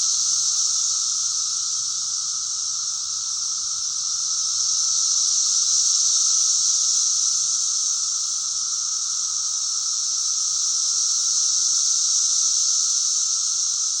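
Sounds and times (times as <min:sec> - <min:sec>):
cicadas chorus shrill drone: 0:00.0 - 0:14.0.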